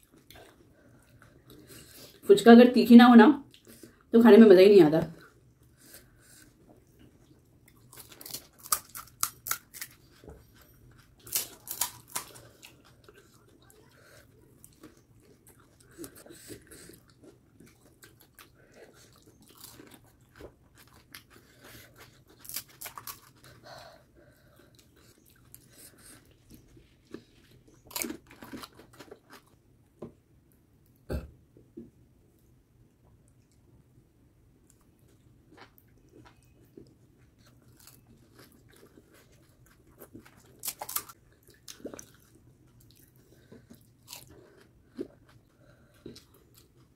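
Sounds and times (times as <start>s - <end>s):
crunching and chewing crisp food: 0.0s - 2.2s, 5.2s - 30.2s, 34.6s - 46.9s.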